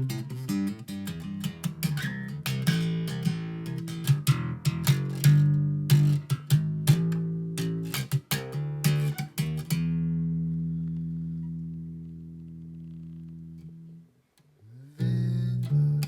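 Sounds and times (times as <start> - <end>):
guitar background music: 0.0 - 14.0.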